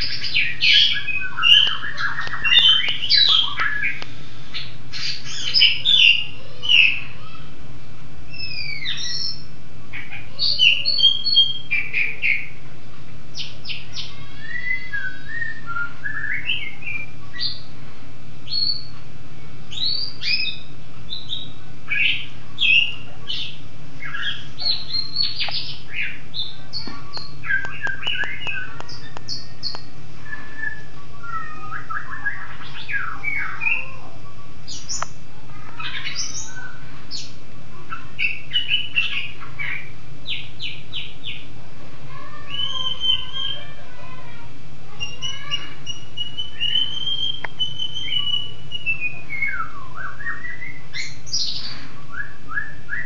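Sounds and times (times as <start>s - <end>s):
songbird singing: 0.0s - 7.6s, 8.3s - 17.8s, 18.4s - 53.0s
steady low hum: 0.0s - 53.0s.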